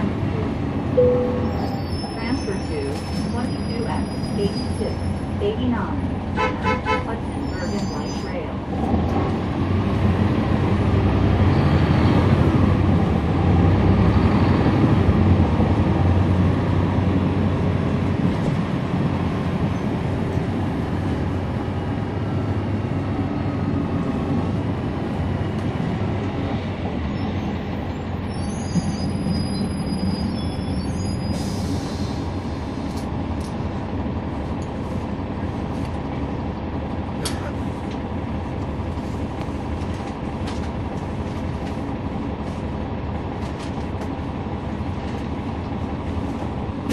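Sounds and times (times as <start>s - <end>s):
bus diesel engine: 0.0s - 46.9s.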